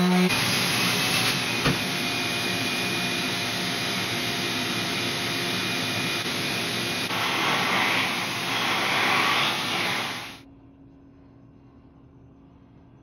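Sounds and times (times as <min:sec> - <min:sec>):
shop vacuum running: 0:00.0 - 0:10.4.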